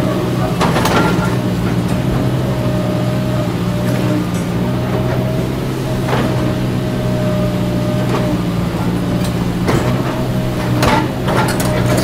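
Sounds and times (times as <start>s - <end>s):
excavator diesel engine running: 0.0s - 12.0s
steady whine: 1.9s - 12.0s.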